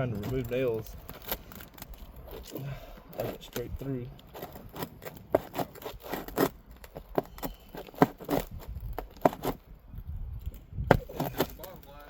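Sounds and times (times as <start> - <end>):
roofing tool scraping shingles: 0.0 - 9.8, 10.9 - 12.0.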